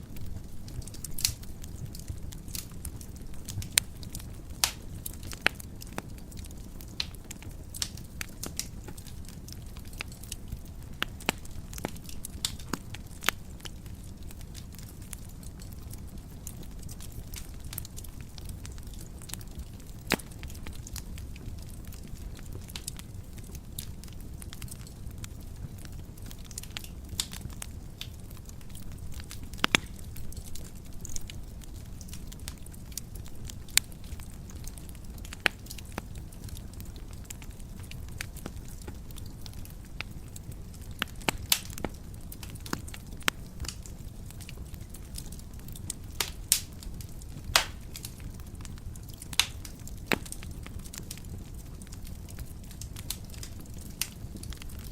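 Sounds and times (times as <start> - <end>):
fire burning in fireplace: 0.0 - 54.9
fire crackles and pops: 0.0 - 54.9.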